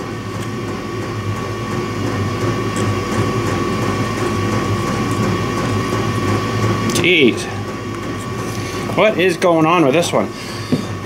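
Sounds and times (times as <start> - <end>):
mechanical hum and whir: 0.0 - 11.0.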